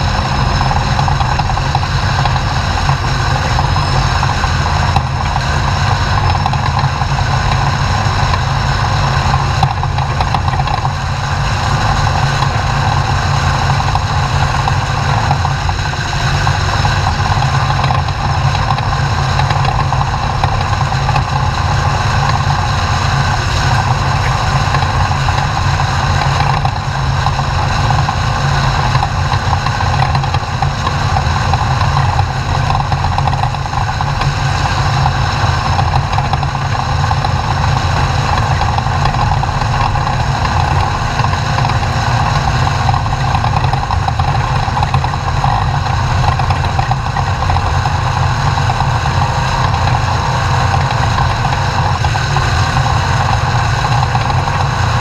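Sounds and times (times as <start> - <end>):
low rumble of terrain noise: 0.0 - 55.0
truck engine running loudly: 0.0 - 55.0.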